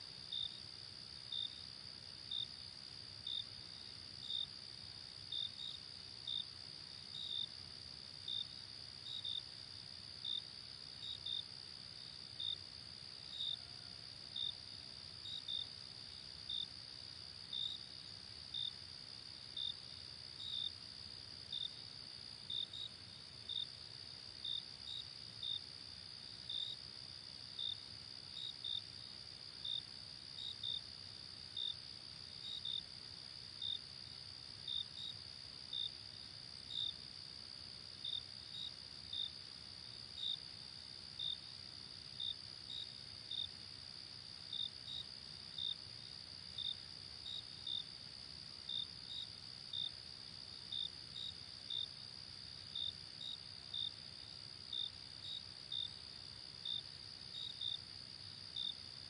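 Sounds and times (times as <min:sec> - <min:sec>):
insect chirps: 0:00.0 - 0:59.0.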